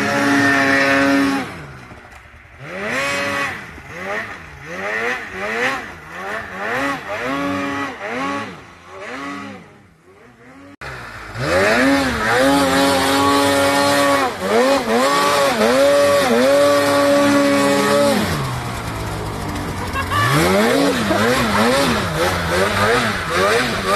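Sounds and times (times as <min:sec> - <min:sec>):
snowmobile engine revving: 0:00.0 - 0:23.9
track churning in snow: 0:00.0 - 0:23.9.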